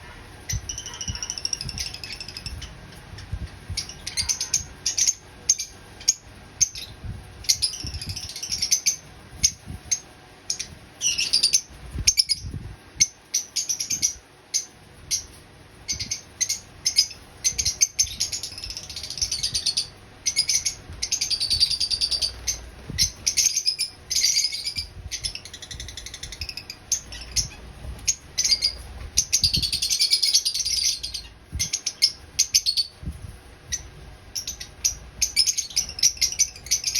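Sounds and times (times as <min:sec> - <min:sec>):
lovebirds chirping and chattering: 0:00.0 - 0:36.9.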